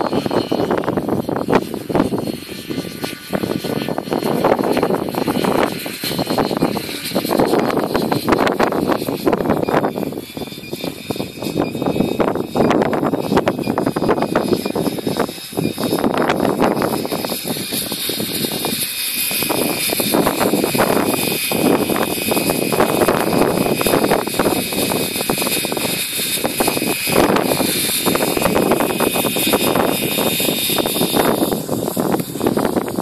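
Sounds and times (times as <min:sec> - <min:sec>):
model helicopter whine: 0:00.0 - 0:33.0
rushing noise: 0:00.0 - 0:33.0.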